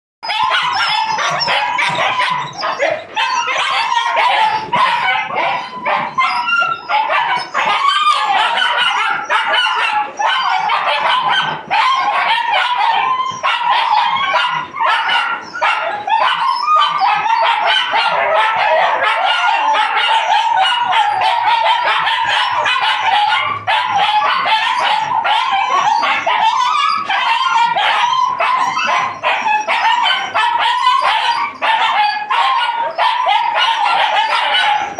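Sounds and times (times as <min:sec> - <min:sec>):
puppies yipping and barking: 0:00.2 - 0:34.9.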